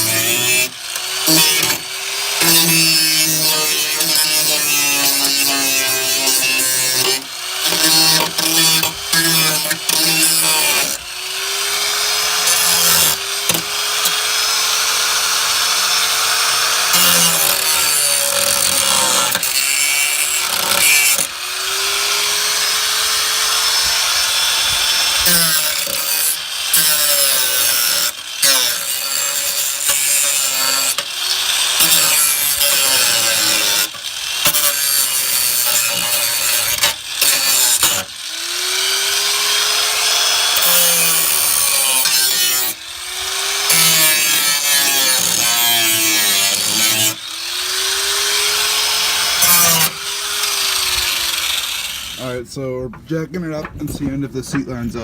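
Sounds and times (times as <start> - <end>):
angle grinder sanding sheet metal: 0.0 - 52.3.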